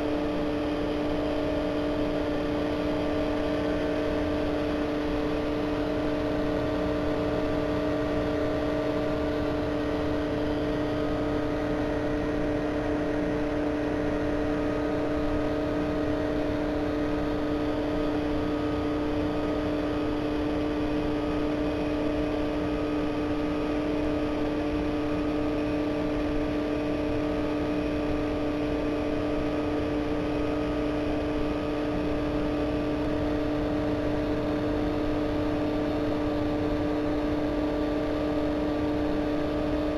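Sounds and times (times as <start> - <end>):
aquarium equipment electric hum: 0.0 - 39.9.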